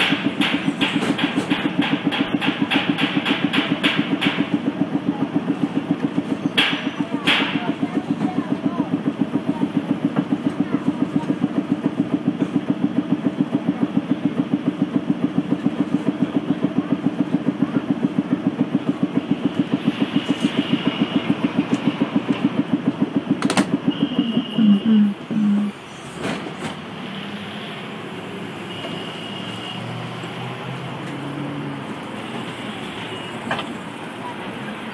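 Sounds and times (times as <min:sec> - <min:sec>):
air compressor chugging: 0:00.0 - 0:30.6.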